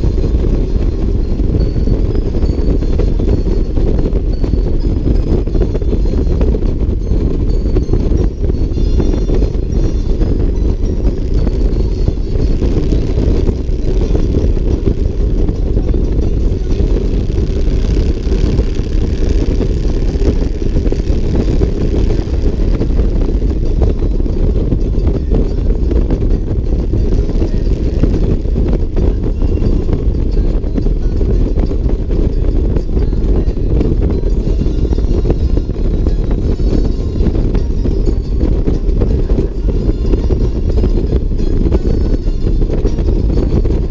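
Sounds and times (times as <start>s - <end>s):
motorcycle engine running: 0.0s - 43.9s
wind noise on microphone: 0.0s - 43.9s.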